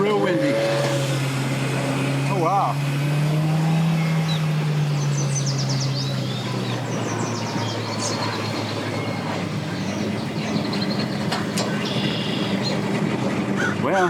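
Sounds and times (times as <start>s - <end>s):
birds chirping: 0.0s - 13.0s
motor humming: 0.9s - 13.0s.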